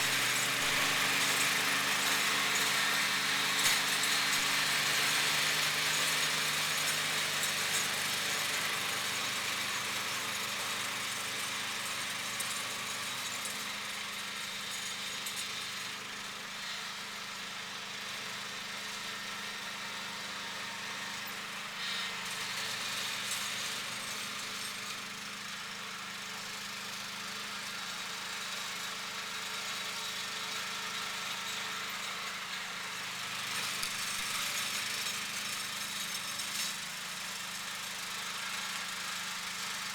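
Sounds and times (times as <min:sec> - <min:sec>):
lawn tractor engine running: 0:00.0 - 0:39.9
snowblower hiss: 0:00.0 - 0:39.9.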